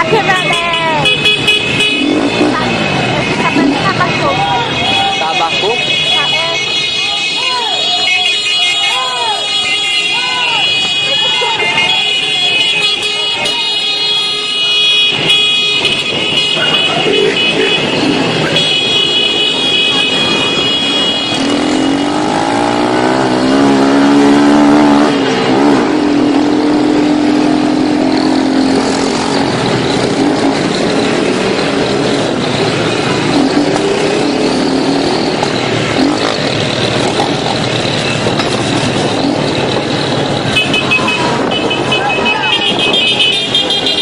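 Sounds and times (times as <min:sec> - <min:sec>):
motorcycle engines revving: 0:00.0 - 0:44.0
street traffic noise: 0:00.0 - 0:44.0.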